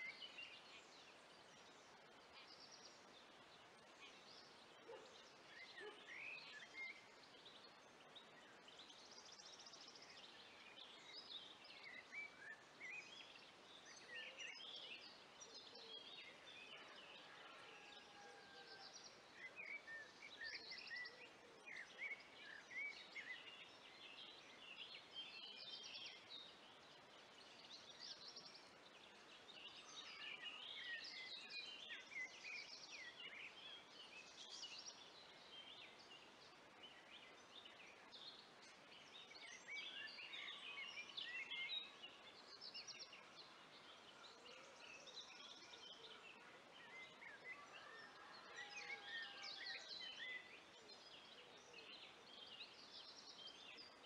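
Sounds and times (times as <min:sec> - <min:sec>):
low background hiss: 0:00.0 - 0:54.0
songbirds singing: 0:00.0 - 0:54.0.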